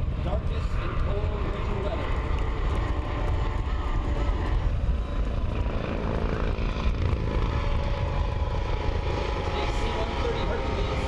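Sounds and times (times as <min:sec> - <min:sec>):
aircraft engines droning overhead: 0:00.0 - 0:11.0.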